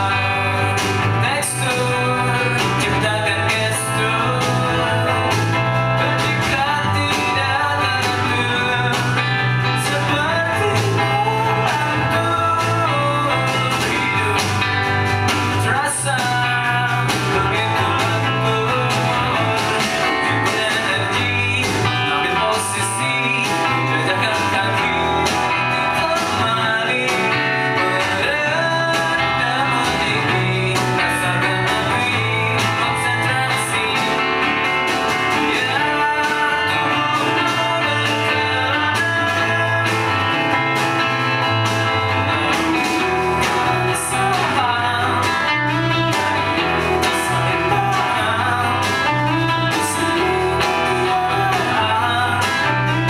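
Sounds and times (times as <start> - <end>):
live rock band playing: 0.0 - 53.0
person singing: 0.0 - 53.0.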